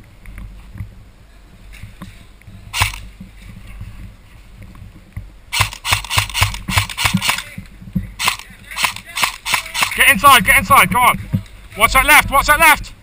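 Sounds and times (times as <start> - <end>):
running footsteps with gear rattle: 0.3 - 12.5.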